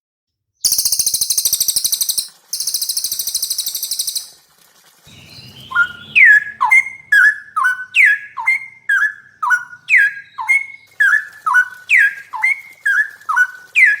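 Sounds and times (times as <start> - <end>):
songbird whistling: 0.6 - 4.4, 5.1 - 14.0.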